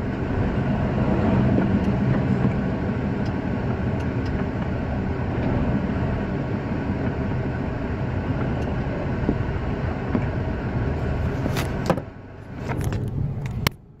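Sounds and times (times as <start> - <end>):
engine and road noise in cab: 0.0 - 14.0.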